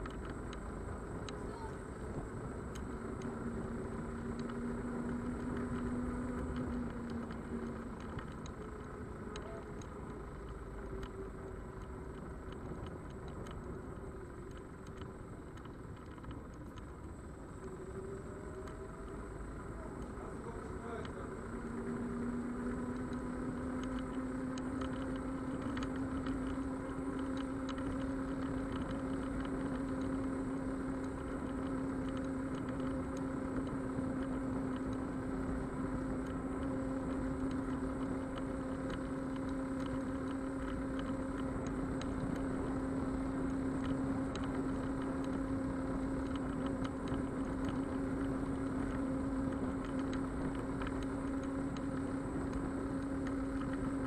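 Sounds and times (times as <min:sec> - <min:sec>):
electric scooter motor whining: 0:00.0 - 0:54.0
small clicks: 0:00.0 - 0:54.0.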